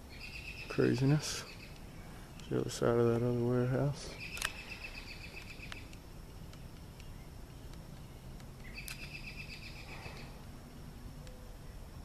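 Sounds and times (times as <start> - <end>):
songbird trill: 0.0 - 12.0.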